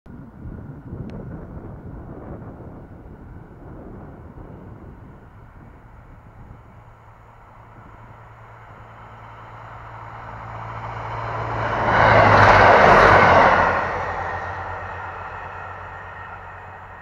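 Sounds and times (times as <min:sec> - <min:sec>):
train passing at speed: 0:00.1 - 0:17.0.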